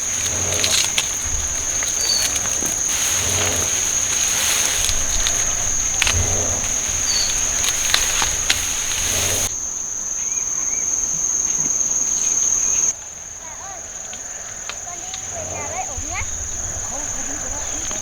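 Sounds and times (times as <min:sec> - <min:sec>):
rustling: 0:00.0 - 0:09.7, 0:11.5 - 0:18.0
insects trilling: 0:00.0 - 0:18.0.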